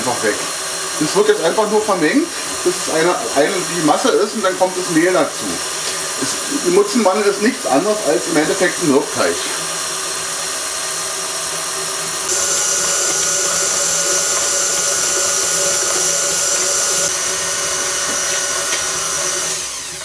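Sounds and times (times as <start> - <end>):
stand mixer motor whirring: 0.0 - 20.0.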